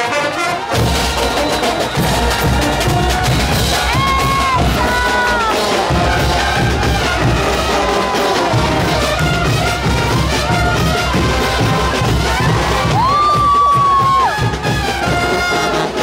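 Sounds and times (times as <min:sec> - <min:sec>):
marching brass band playing: 0:00.0 - 0:16.0
steady drum beat: 0:00.6 - 0:16.0.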